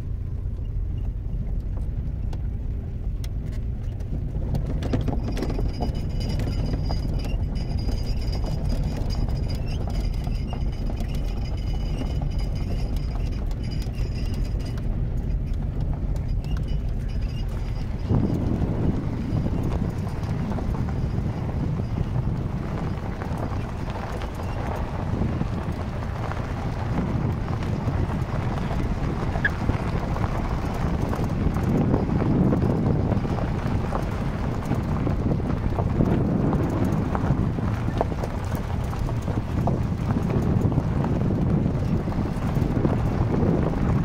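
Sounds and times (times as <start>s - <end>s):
vehicle engine and tyres rumbling: 0.0s - 44.0s
stones knocking and rattling: 3.2s - 43.8s
wind on microphone: 4.1s - 44.0s.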